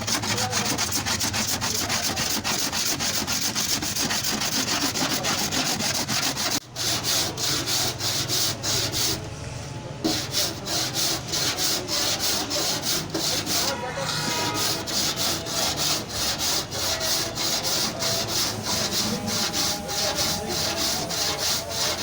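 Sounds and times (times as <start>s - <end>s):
sanding on car body panel: 0.0s - 9.2s, 10.0s - 22.0s.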